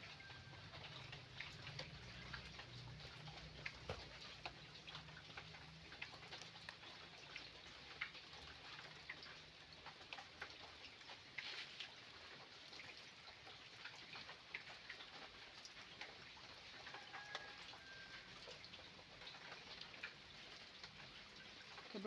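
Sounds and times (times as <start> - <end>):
faint small ticks and drips: 0.0 - 22.0.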